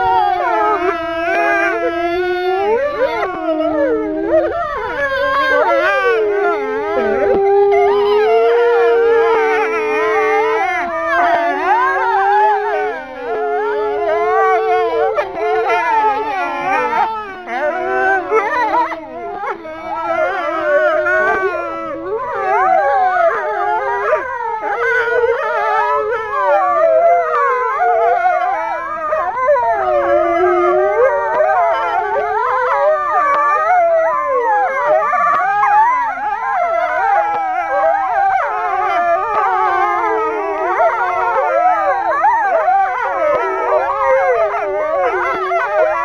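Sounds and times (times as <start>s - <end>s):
wolves howling in chorus: 0.0s - 46.0s.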